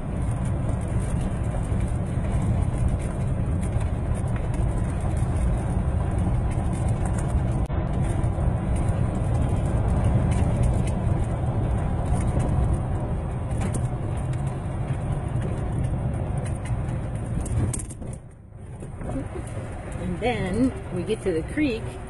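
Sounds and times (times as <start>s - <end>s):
golf cart rumbling on dirt road: 0.0s - 22.0s
small rattles: 0.0s - 22.0s.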